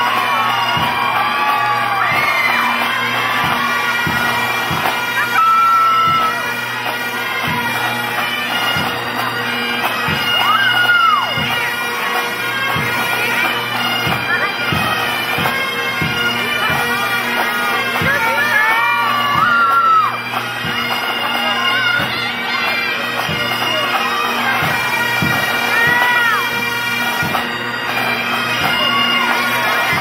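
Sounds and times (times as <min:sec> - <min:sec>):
bagpipes playing: 0:00.0 - 0:30.0
noisy crowd: 0:00.0 - 0:30.0.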